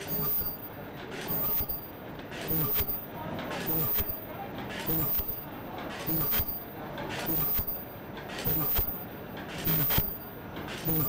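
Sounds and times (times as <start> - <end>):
bag making machine clacking: 0.0 - 11.0.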